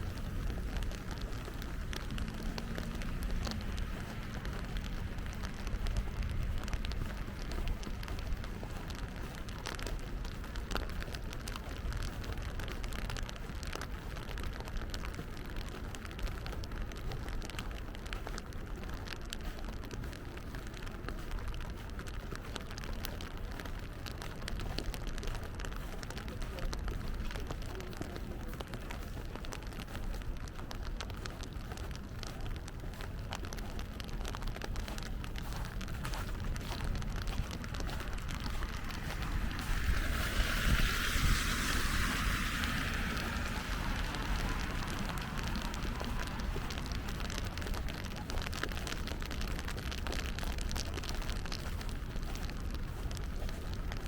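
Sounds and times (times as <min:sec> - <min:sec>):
constant low rumble: 0:00.0 - 0:54.0
rain drops ticking: 0:00.0 - 0:54.0.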